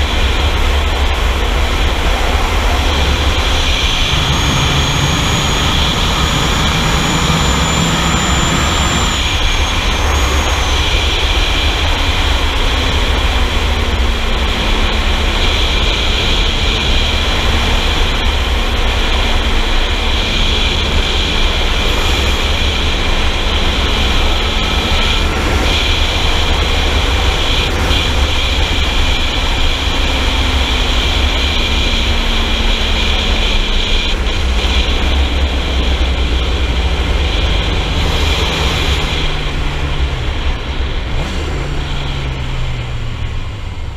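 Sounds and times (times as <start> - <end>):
faint motorcycle engine: 0.0 - 43.9
wind rush over microphone: 0.0 - 43.9.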